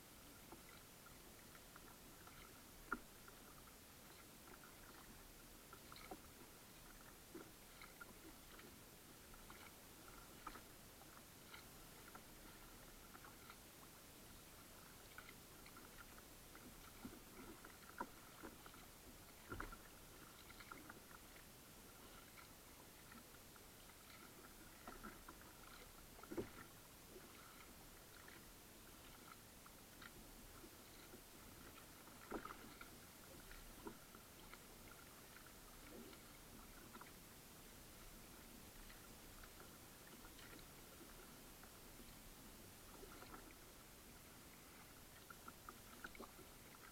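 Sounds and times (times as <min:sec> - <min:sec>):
paddle splashes and drips: 0:00.0 - 0:46.9.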